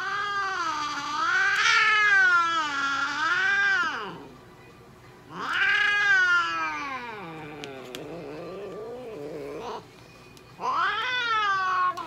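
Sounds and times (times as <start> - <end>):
cat yowling: 0.0 - 4.3, 5.3 - 9.8, 10.6 - 12.0.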